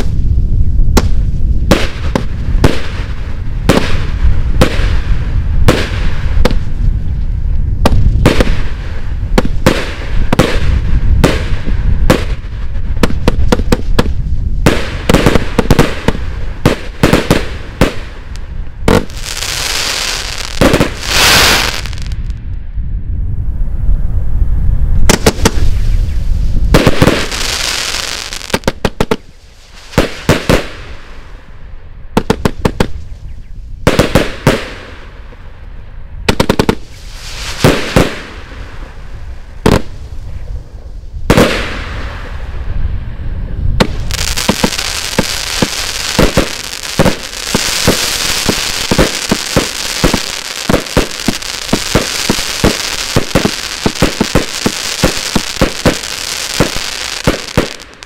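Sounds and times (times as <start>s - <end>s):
firework bangs and pops: 0.0s - 6.9s, 7.8s - 22.3s, 25.0s - 31.2s, 32.2s - 33.1s, 33.8s - 35.2s, 36.3s - 39.0s, 39.6s - 40.2s, 41.2s - 42.5s, 43.8s - 58.0s
firework crackling: 0.0s - 22.4s, 24.9s - 35.6s, 36.2s - 42.9s, 43.7s - 58.0s.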